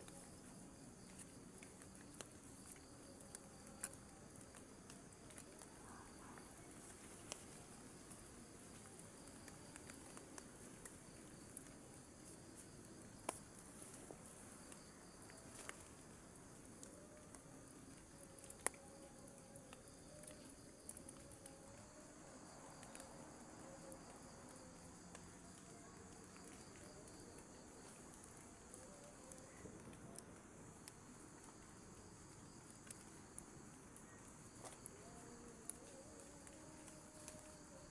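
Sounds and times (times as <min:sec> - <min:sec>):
insects chirring: 0:00.0 - 0:37.9.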